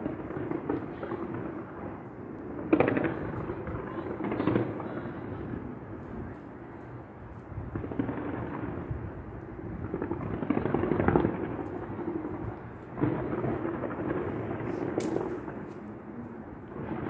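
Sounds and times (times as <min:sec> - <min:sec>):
distant fireworks bangs and crackling: 0:00.0 - 0:17.0.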